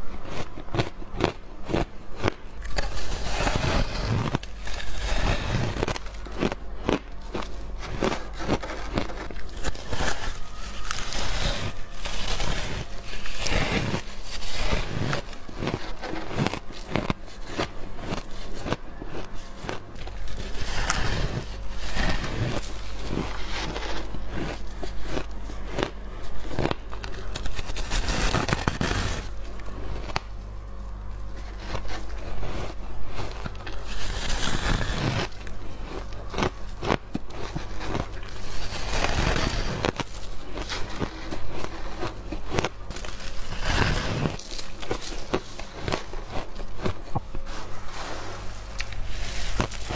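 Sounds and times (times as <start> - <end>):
ice crunching as it is chewed: 0.0 - 49.9.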